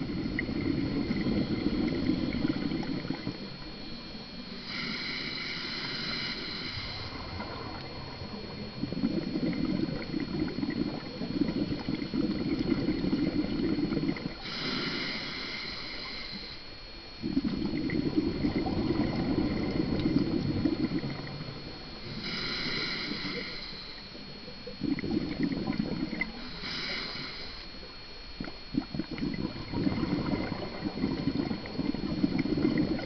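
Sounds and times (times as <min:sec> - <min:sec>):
hissing regulator inhalation: 0:00.0 - 0:24.2, 0:25.1 - 0:27.8
exhaled bubbles gurgling: 0:00.0 - 0:33.0.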